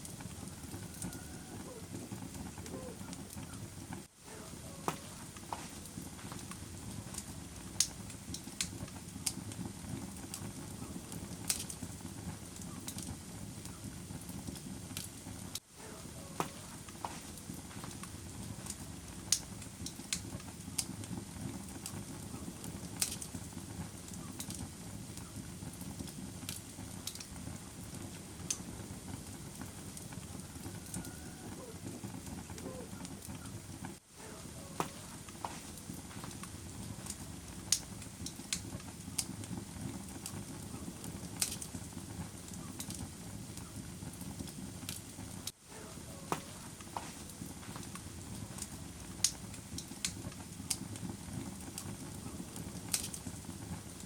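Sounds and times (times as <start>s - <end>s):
wood fire rumbling and crackling: 0.0s - 54.0s.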